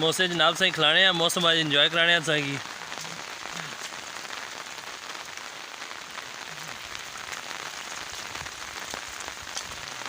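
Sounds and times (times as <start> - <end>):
heavy rain pattering: 0.0 - 10.0.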